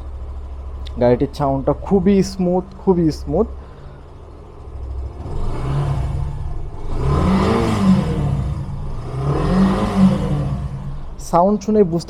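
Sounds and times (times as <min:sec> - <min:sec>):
motorcycle engine revving: 0:01.8 - 0:12.0.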